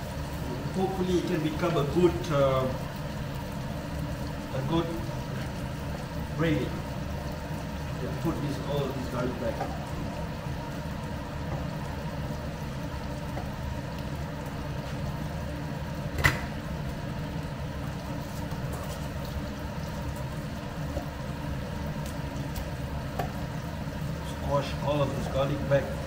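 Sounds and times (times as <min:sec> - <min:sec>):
gas stove hum and hiss: 0:00.0 - 0:26.0
pan simmering: 0:00.0 - 0:26.0.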